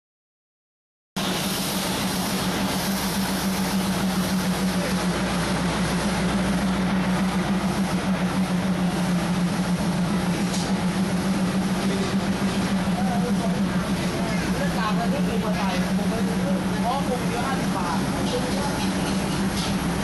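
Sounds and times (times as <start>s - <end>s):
engine running: 1.2s - 20.0s.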